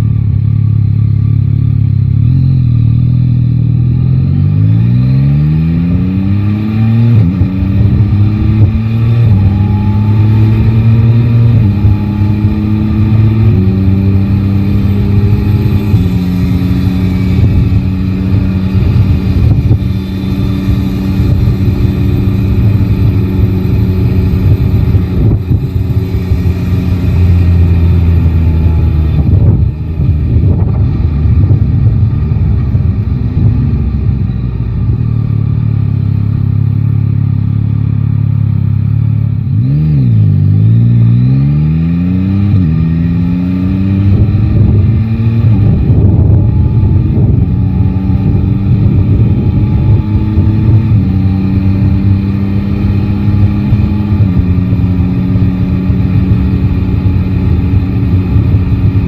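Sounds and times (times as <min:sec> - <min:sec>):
motorcycle engine under way: 0:00.0 - 0:59.0
wind rushing over microphone: 0:05.6 - 0:36.5, 0:39.5 - 0:59.0.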